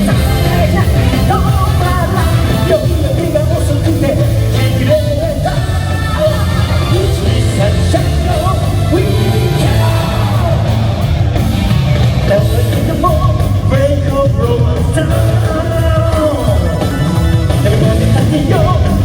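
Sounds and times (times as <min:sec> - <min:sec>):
man singing: 0:00.0 - 0:19.0
rock band playing: 0:00.0 - 0:19.0.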